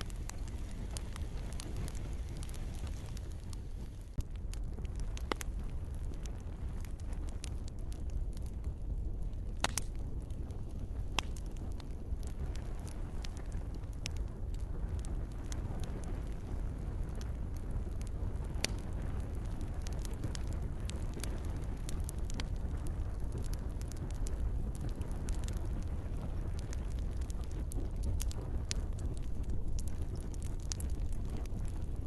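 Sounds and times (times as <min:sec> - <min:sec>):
campfire crackling and popping: 0:00.0 - 0:32.0
gentle rain: 0:00.0 - 0:32.0.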